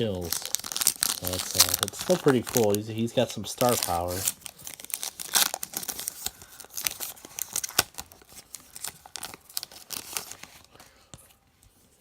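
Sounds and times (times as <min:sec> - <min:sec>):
wrapper crinkling and cards rustling: 0:00.0 - 0:12.0.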